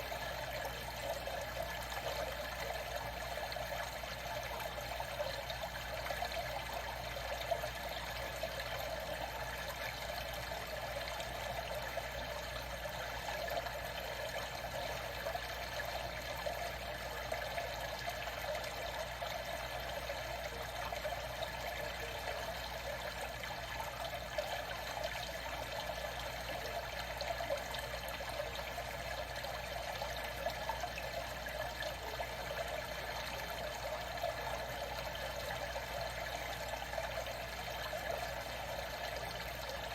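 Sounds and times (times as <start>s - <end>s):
water trickling and flowing: 0.0s - 39.9s.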